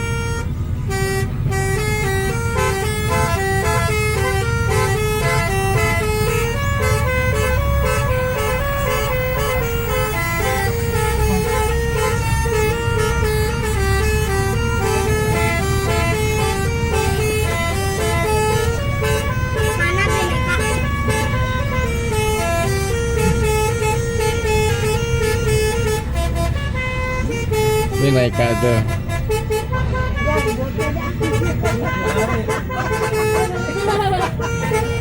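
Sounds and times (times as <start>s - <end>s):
horn playing a tune: 0.0s - 35.0s
low engine rumble: 0.0s - 35.0s.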